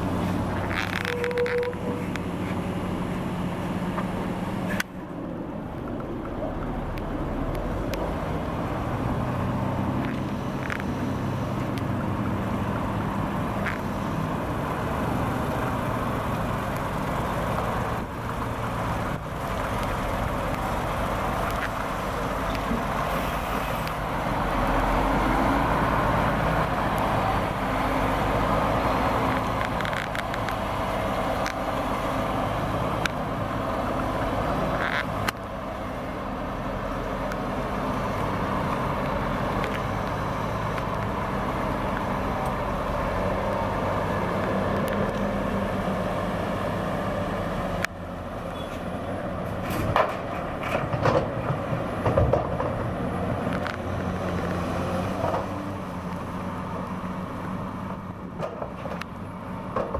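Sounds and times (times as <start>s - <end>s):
excavator working: 0.0s - 59.9s
truck diesel engine: 0.0s - 59.9s.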